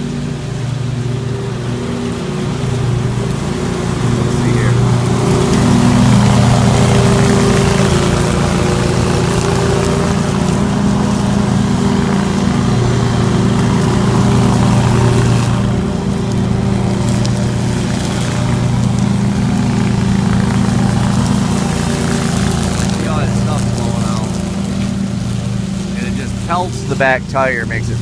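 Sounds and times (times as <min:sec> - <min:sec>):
lawn mower running: 0:00.0 - 0:28.0.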